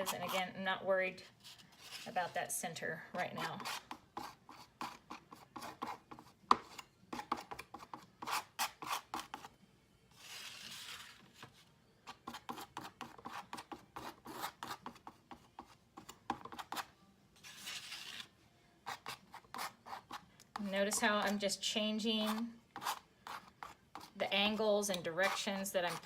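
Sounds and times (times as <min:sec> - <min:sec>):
palette knife scraping paint: 0:00.0 - 0:00.6, 0:01.2 - 0:02.4, 0:03.4 - 0:26.0.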